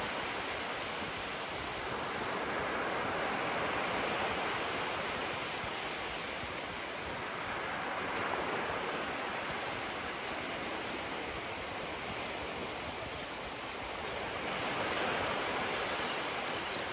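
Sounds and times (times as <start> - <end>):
small waves washing onto shore: 0.0 - 16.9.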